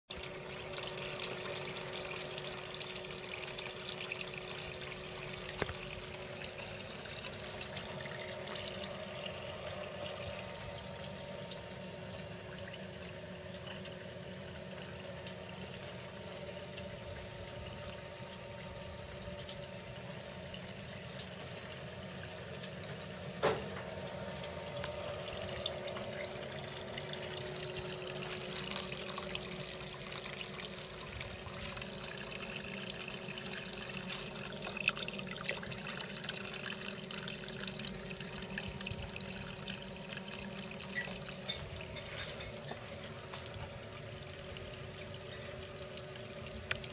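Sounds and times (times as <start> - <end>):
steady pump hum: 0.1 - 46.9
tap water running into basin: 0.1 - 46.9.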